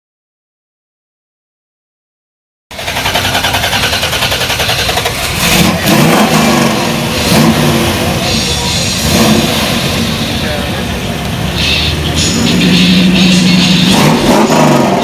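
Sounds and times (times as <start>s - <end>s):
car engine idling and revving: 2.7s - 15.0s.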